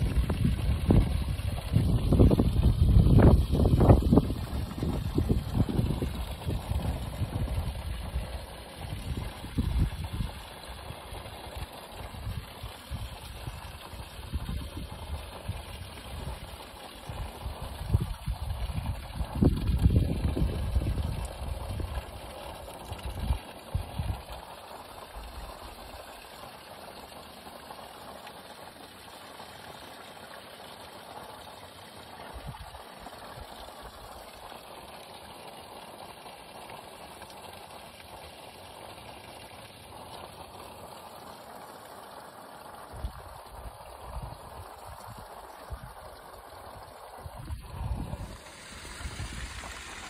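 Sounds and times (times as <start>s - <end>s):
hose water splashing into pond: 0.0s - 50.0s.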